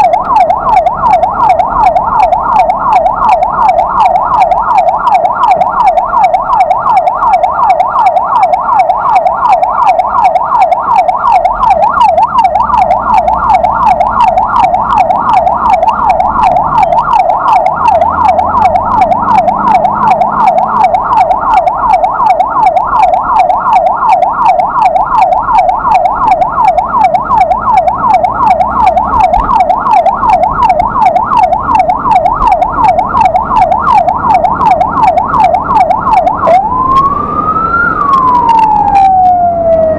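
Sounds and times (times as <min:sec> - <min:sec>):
low vehicle rumble: 0:00.0 - 0:39.9
siren yelping: 0:00.0 - 0:39.9.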